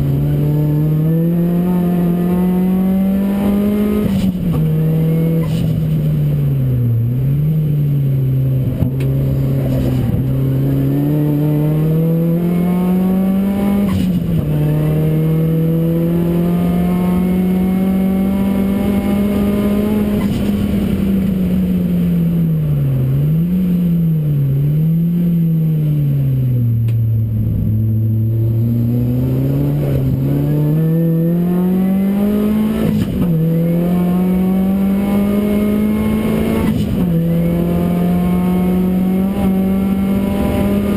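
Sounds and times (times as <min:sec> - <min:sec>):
car engine accelerating hard: 0:00.0 - 0:40.9.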